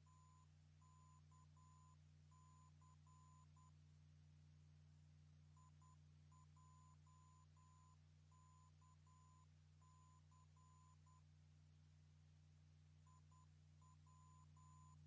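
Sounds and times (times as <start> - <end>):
faint pulsing beep: 0.0 - 15.0.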